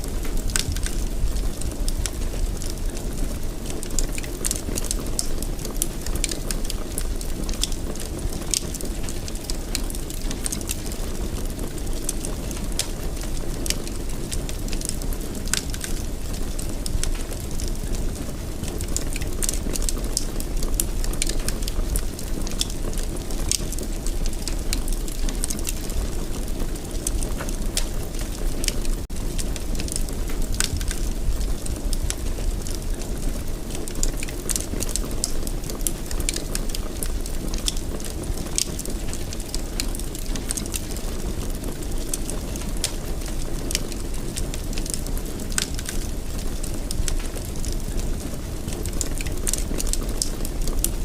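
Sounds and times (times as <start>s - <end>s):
low rumble of flames: 0.0s - 51.0s
wood fire crackling and popping: 0.0s - 51.0s.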